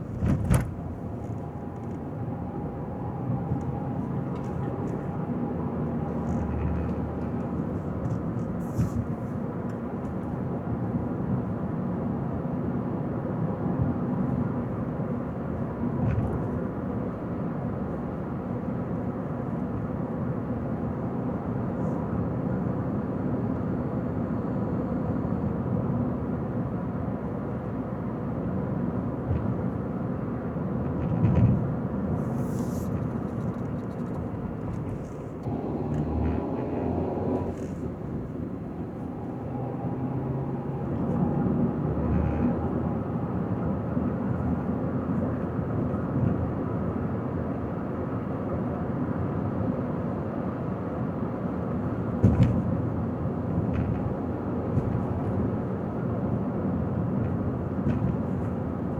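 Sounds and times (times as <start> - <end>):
car engine and tyres on road: 0.0 - 58.9.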